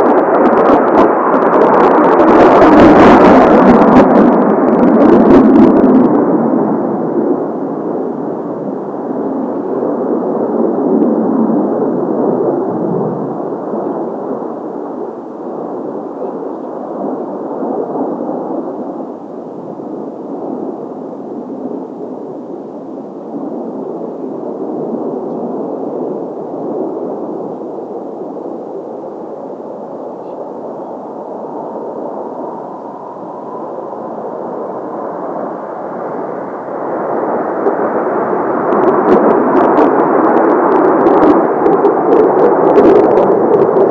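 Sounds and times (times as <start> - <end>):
distant jet drone: 0.0 - 43.9
jet engine rumble: 0.0 - 43.9.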